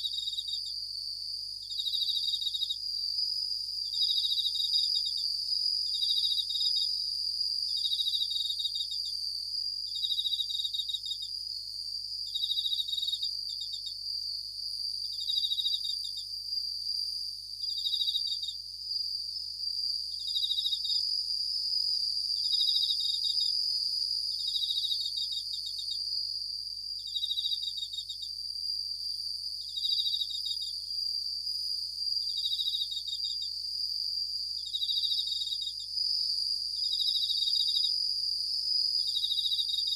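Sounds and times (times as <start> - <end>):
crickets ringing chirps: 0.0 - 39.9
high-pitched insect trill: 0.0 - 39.9.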